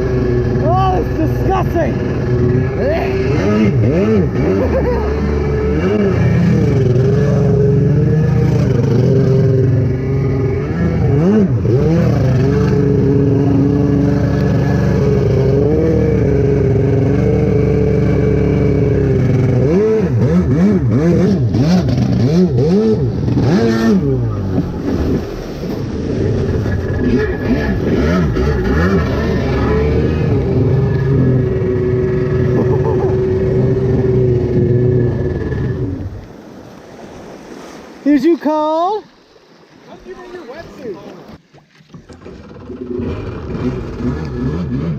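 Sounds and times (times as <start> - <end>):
jet ski engine revving: 0.0 - 44.9.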